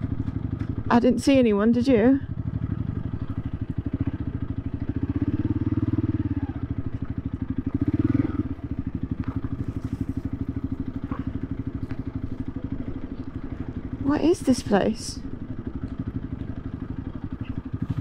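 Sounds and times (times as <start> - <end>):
motorcycle engine running at low revs: 0.0 - 18.0.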